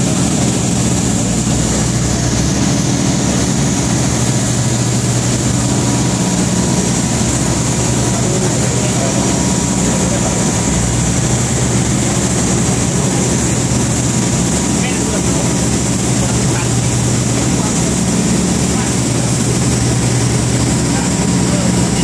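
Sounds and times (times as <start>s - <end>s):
heavy diesel machinery droning: 0.0s - 22.0s.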